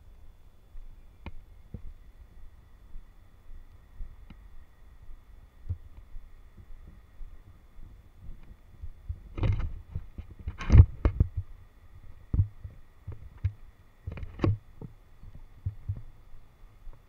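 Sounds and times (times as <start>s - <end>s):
faint high whine: 0.0s - 17.0s.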